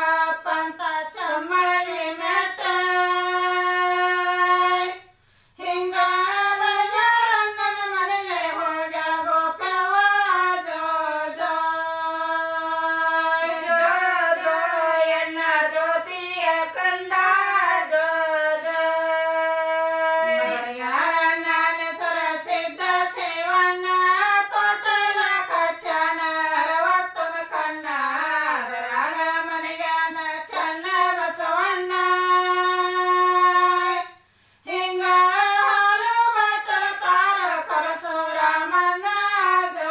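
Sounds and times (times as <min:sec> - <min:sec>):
woman singing a lullaby: 0:00.0 - 0:05.0, 0:05.6 - 0:34.1, 0:34.7 - 0:39.9.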